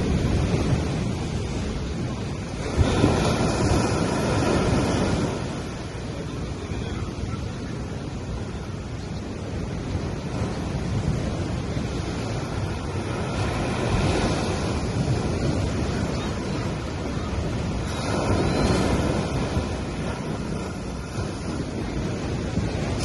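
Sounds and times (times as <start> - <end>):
waves washing on sandy beach: 0.0 - 23.0.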